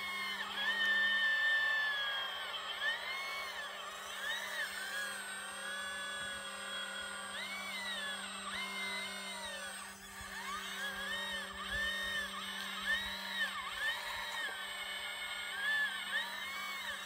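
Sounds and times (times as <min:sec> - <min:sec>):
hydraulic pump whining: 0:00.0 - 0:17.0.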